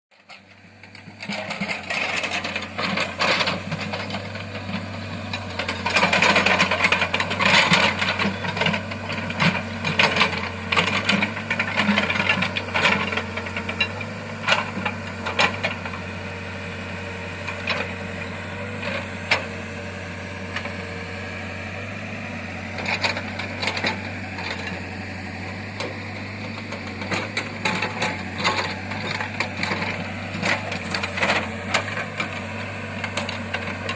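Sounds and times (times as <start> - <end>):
diesel engine running under load: 0.1 - 33.9.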